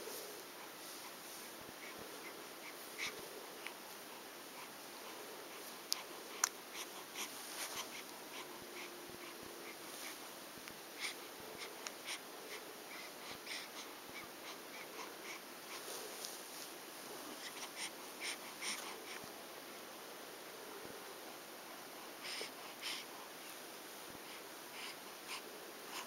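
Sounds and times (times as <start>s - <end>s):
wheezy snuffling breaths: 0.0s - 19.4s, 21.7s - 26.0s.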